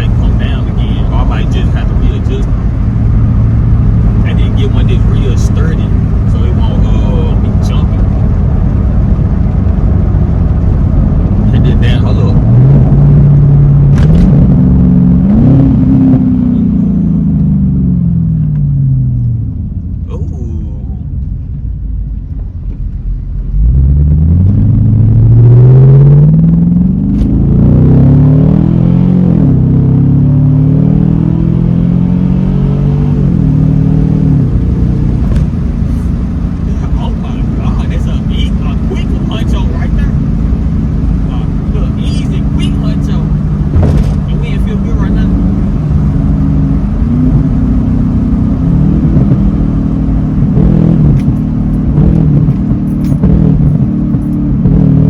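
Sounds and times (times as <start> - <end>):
car engine accelerating hard: 0.0 - 21.5, 22.1 - 55.0.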